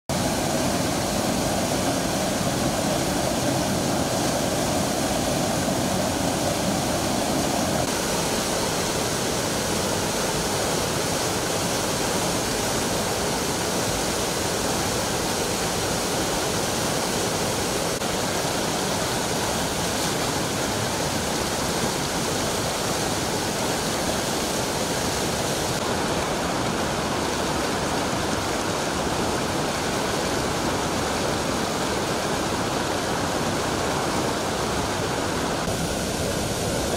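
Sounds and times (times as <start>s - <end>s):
floodwater rushing: 0.1s - 36.9s.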